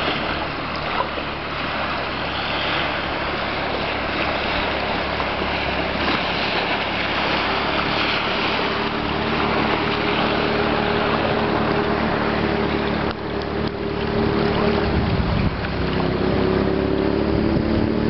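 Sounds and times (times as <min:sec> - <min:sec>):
water slapping kayak: 0:00.0 - 0:18.0
wind buffeting microphone: 0:00.0 - 0:18.0.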